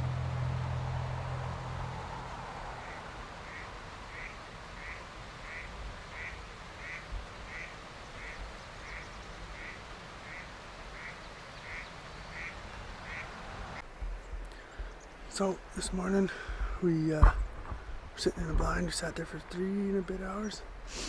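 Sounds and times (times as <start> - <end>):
steady hiss: 1.5 - 21.0.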